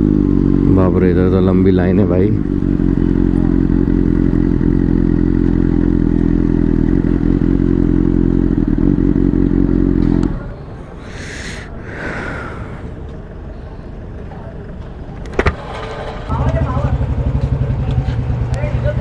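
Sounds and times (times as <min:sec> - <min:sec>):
motorcycle engine idling: 0:00.0 - 0:11.0, 0:11.6 - 0:19.0.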